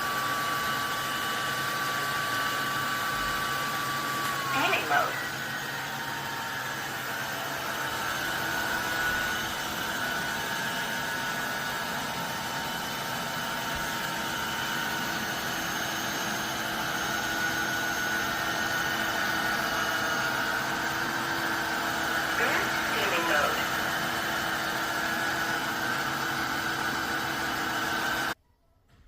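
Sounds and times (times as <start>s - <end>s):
vacuum mop motor humming: 0.0s - 28.4s.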